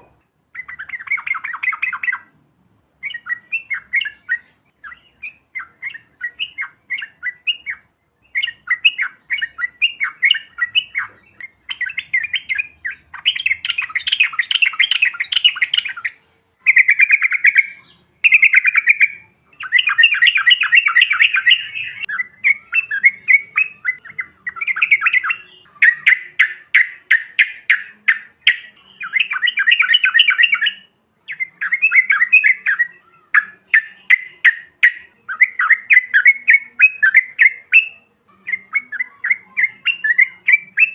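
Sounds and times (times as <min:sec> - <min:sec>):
bird chattering song: 0:00.0 - 0:02.4, 0:03.0 - 0:40.9.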